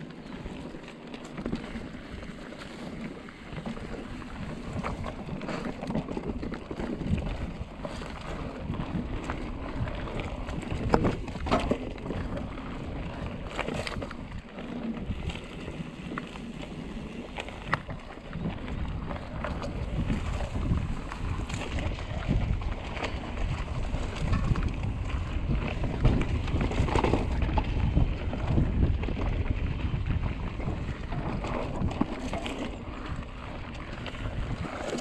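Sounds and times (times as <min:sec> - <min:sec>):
bike rattling and knocking: 0:00.0 - 0:35.0
bike tyres rolling over rough ground: 0:00.0 - 0:35.0
wind buffeting microphone: 0:00.0 - 0:35.0.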